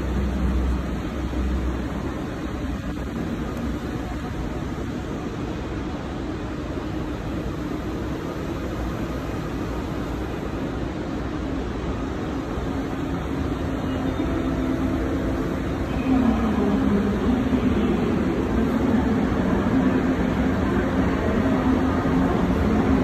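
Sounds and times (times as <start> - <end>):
train running rumble: 0.0 - 23.0.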